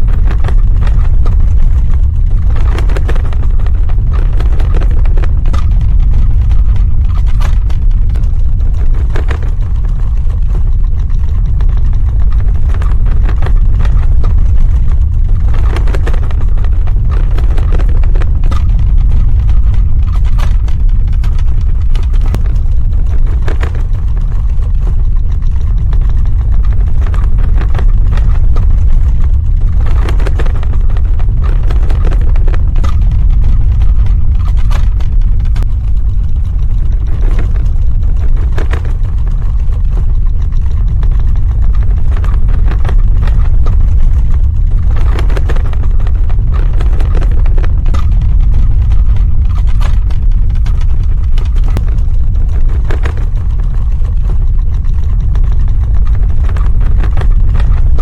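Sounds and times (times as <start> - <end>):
deep rumble: 0.0 - 58.0
short cracks and crackles: 0.0 - 58.0.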